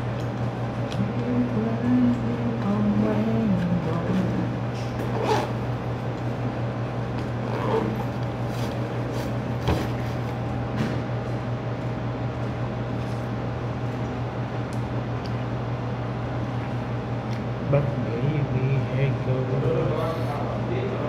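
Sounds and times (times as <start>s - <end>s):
air conditioner humming: 0.0s - 21.0s.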